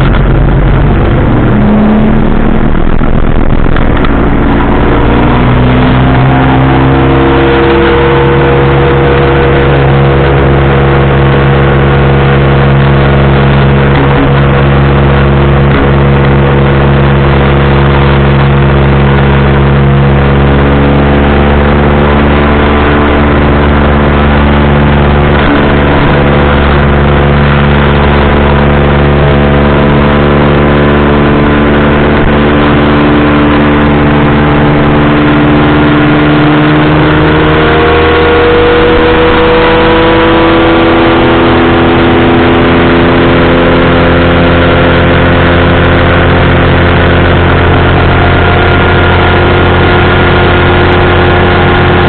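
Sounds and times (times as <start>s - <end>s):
powered parachute engine running: 0.0s - 52.0s.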